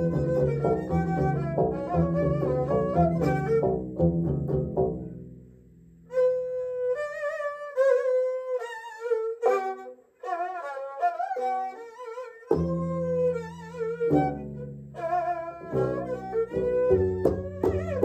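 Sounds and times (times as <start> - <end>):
plucked string notes: 0.0 - 7.0, 7.8 - 18.0
bowed string melody with vibrato: 0.0 - 18.0.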